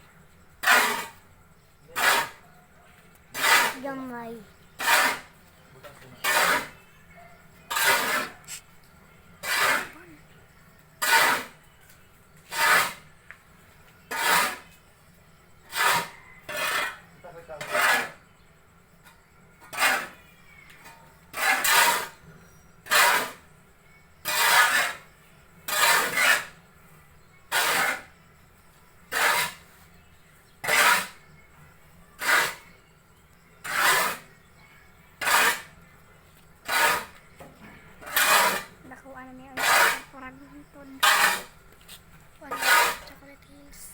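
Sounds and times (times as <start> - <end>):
tool scraping sawdust mixture: 0.4 - 8.8, 9.4 - 11.7, 12.4 - 13.2, 13.9 - 18.4, 19.6 - 43.9.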